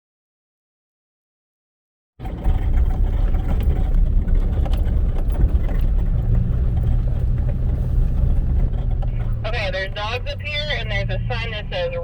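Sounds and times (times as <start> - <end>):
off-road vehicle engine: 2.2 - 12.0.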